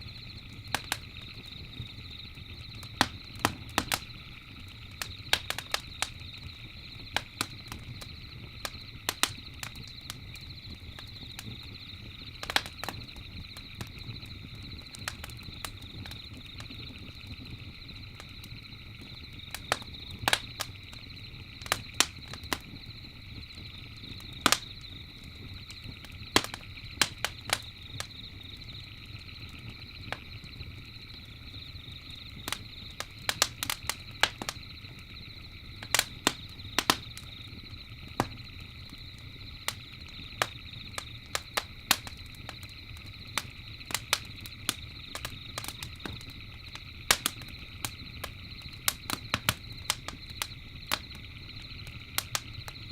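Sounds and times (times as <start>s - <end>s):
campfire crackling and popping: 0.0s - 52.9s
night insects chirring: 0.0s - 52.9s.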